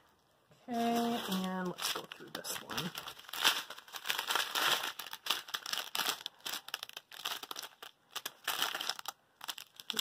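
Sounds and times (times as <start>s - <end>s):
plastic bags crinkling: 0.7s - 10.0s.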